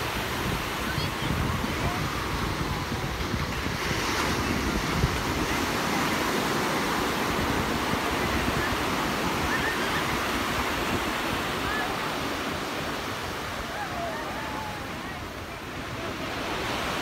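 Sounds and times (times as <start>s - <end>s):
waves breaking on beach: 0.0s - 17.0s
wind rumbling on microphone: 0.0s - 17.0s.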